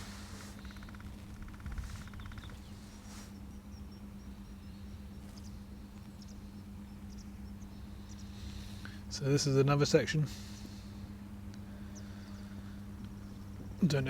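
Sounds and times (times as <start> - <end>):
outboard motor humming: 0.0 - 14.0
small birds chirping: 0.0 - 14.0.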